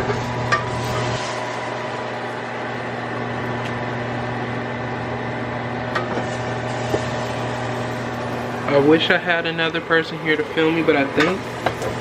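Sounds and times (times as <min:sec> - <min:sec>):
fan humming: 0:00.0 - 0:12.0.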